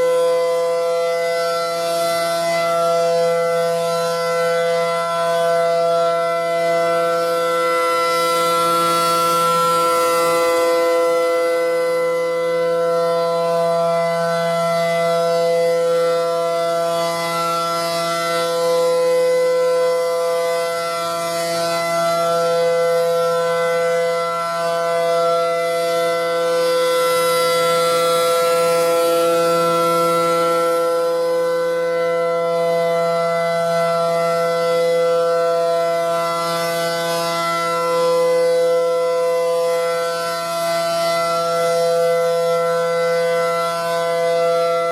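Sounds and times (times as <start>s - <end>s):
tornado warning siren: 0.0s - 44.9s.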